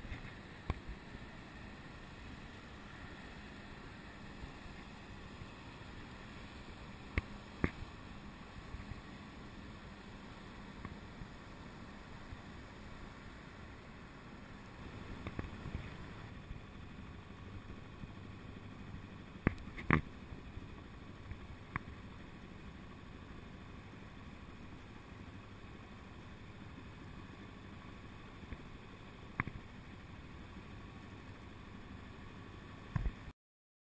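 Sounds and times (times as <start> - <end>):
water and air washing around boat: 0.0 - 33.3.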